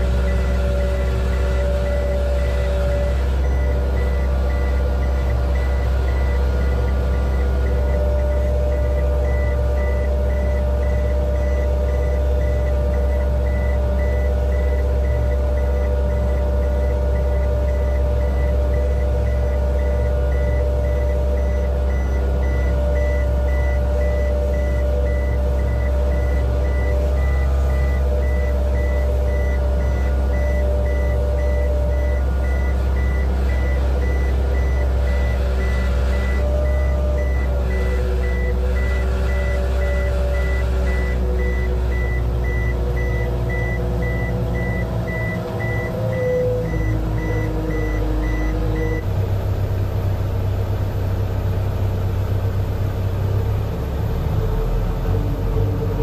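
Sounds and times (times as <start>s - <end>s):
aircraft tractor engine rumble: 0.0s - 56.0s.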